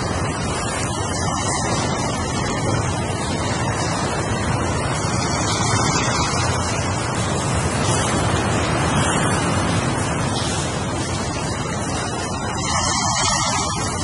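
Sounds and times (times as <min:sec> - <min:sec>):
ocean waves washing in: 0:00.0 - 0:14.0.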